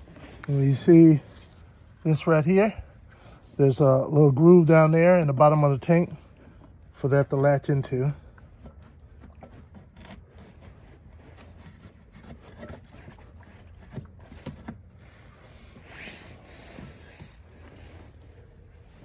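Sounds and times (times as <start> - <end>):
low steady hum: 0.0 - 19.0
scraping rustle: 0.0 - 19.0.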